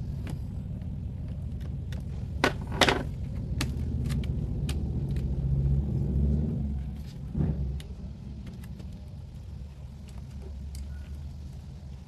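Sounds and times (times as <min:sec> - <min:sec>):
hands handling wires and parts: 0:00.0 - 0:05.4, 0:07.0 - 0:12.0
steady low rumble: 0:00.0 - 0:12.0.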